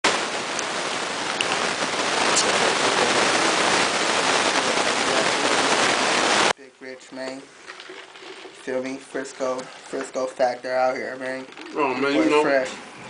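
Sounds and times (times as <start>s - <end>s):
loud steady hiss: 0.0s - 13.0s.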